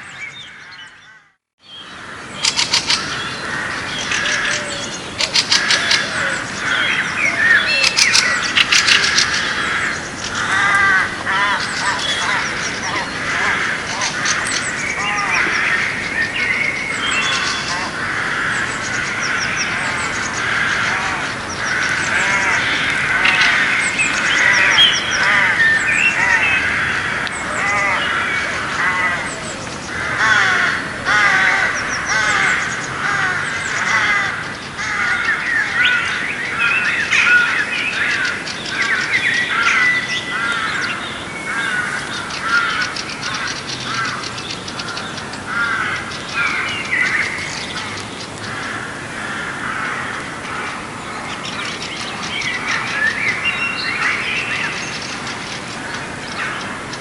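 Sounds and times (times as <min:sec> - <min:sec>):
flock of birds chirping: 0:00.0 - 0:57.0.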